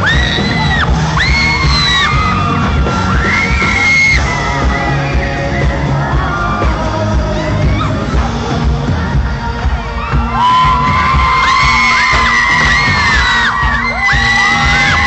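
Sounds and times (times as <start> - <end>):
crowd screaming: 0.0 - 8.6, 9.4 - 15.0
live pop music with beat: 0.0 - 15.0.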